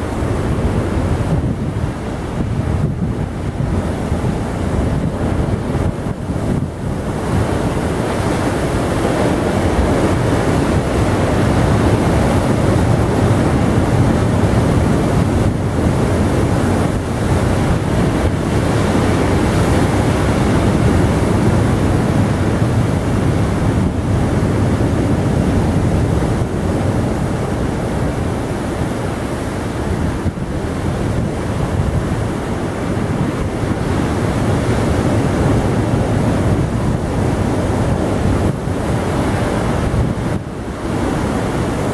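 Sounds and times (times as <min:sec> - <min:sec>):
heavy surf breaking over boulders: 0:00.0 - 0:41.9.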